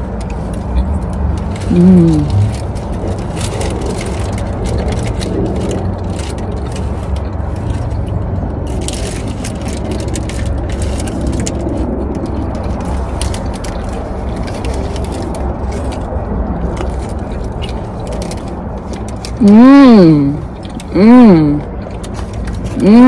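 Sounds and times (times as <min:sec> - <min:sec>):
food wrappers crackling: 0:00.0 - 0:19.4, 0:21.8 - 0:22.9
steady low rumble: 0:00.0 - 0:23.0
chewing: 0:00.2 - 0:19.4.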